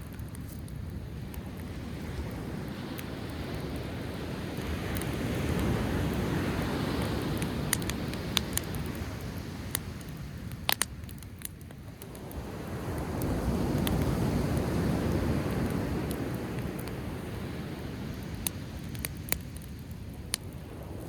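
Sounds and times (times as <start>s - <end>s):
fire crackling and popping: 0.0s - 21.0s
surf washing on shore: 0.4s - 10.8s, 11.8s - 21.0s.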